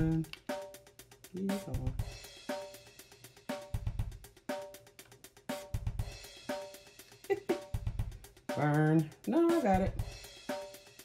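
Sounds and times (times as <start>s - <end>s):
drum kit beat: 0.0s - 11.0s.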